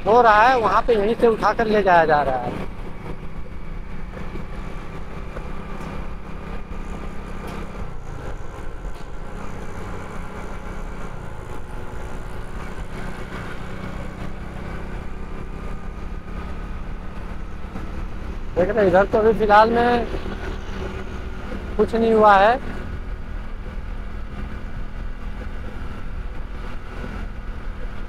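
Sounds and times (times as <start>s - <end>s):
motorcycle engine running: 0.0s - 28.0s
road and air noise: 0.0s - 28.0s.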